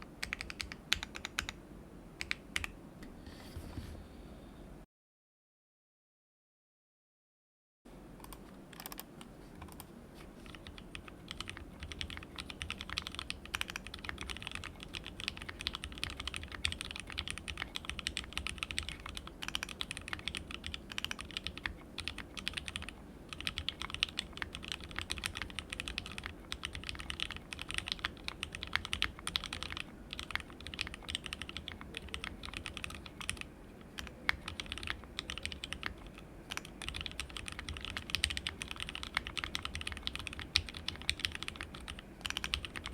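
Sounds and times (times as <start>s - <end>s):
mechanical keyboard typing: 0.2s - 1.6s, 2.2s - 2.8s, 8.2s - 42.9s.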